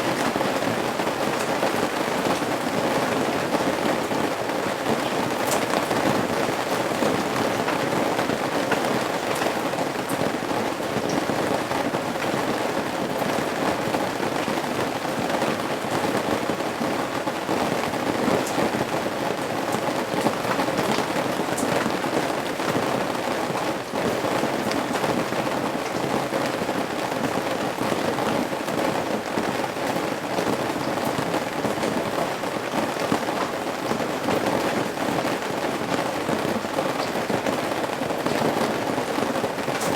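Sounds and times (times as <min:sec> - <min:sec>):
steady rain falling on eaves: 0:00.0 - 0:39.9.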